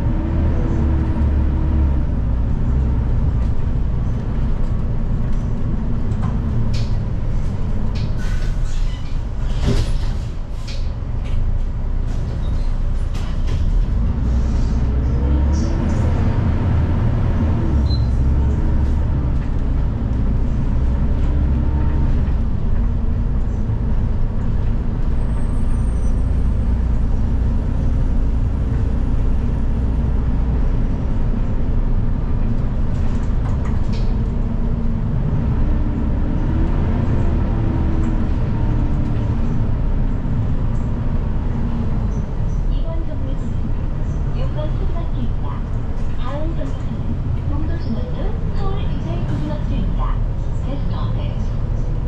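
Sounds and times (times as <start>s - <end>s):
bus engine rumble: 0.0s - 52.0s
road rumble: 0.0s - 52.0s.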